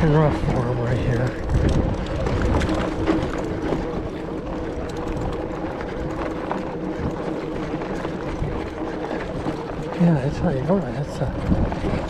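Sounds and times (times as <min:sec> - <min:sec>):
tyres on rough dirt road: 0:00.0 - 0:12.0.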